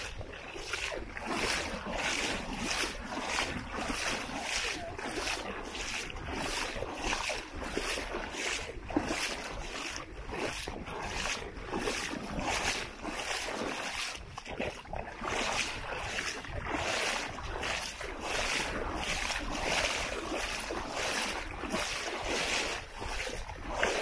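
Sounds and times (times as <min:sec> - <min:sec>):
footsteps on sand: 0:00.0 - 0:14.2, 0:15.4 - 0:24.0.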